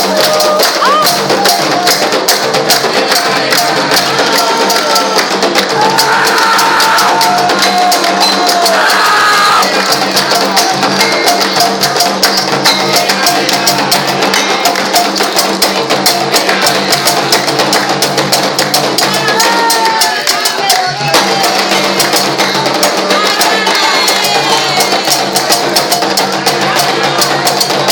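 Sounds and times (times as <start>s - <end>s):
voices singing a chant: 0.0s - 15.2s, 15.9s - 27.9s
hand drums and percussion: 0.0s - 27.9s.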